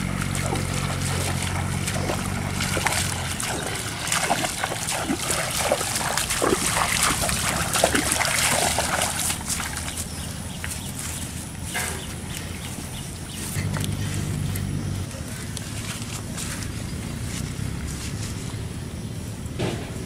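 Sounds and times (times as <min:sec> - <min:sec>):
wading through shallow water: 0:00.0 - 0:19.5.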